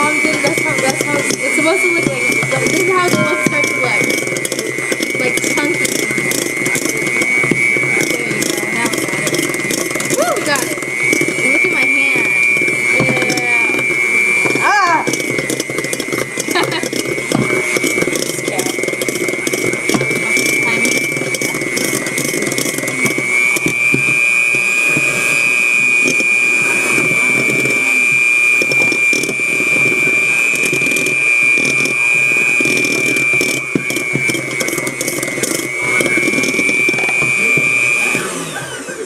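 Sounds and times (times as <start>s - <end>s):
kitchen appliance motor whining: 0.0s - 39.0s.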